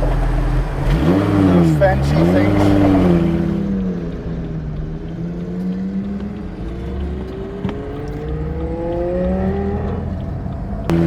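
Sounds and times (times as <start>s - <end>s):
engine accelerating: 0.0s - 11.0s.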